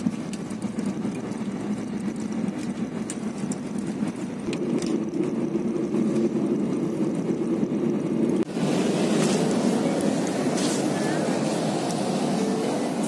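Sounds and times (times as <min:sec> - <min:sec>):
jet engines rumbling: 0:00.0 - 0:13.0
steady hum: 0:00.0 - 0:13.0
rushing air: 0:01.5 - 0:13.0.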